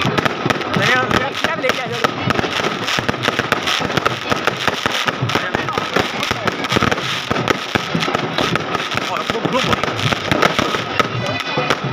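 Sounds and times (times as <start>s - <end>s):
fireworks bangs and crackles: 0.0s - 11.9s.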